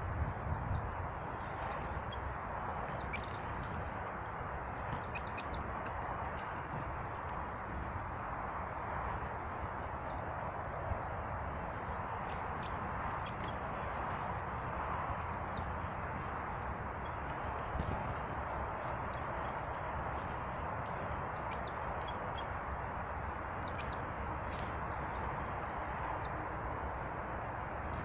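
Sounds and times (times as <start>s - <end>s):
small birds chirping: 0.4s - 4.0s, 4.8s - 9.3s, 10.0s - 28.0s.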